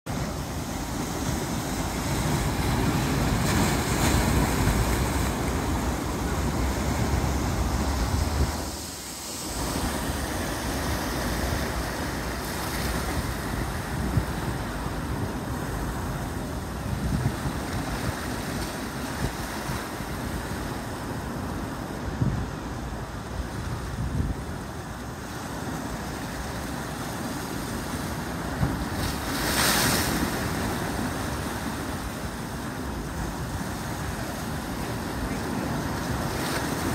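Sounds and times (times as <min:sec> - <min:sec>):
ocean surf churning between rocks: 0:00.1 - 0:36.9.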